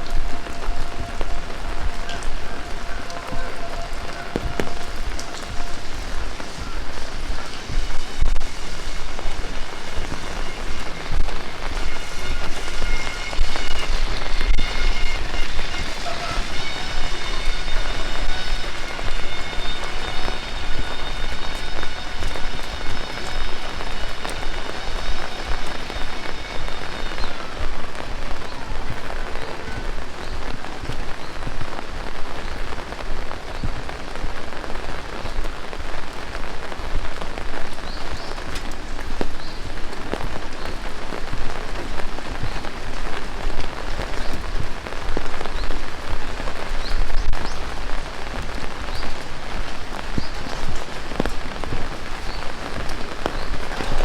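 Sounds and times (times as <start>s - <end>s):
heavy rain falling: 0.0s - 54.0s
raindrops splashing on surfaces: 0.0s - 54.0s.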